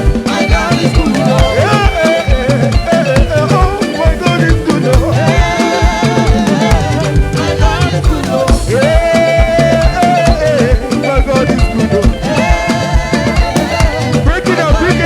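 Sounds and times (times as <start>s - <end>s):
steady drum beat: 0.0s - 15.0s
upbeat gospel band music: 0.0s - 15.0s.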